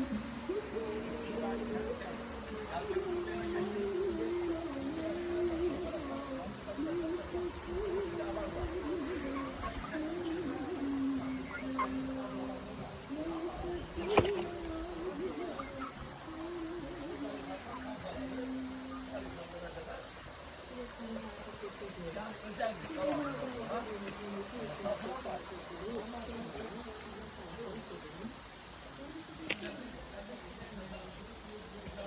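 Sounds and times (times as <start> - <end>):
insects chirping chorus: 0.0 - 32.0.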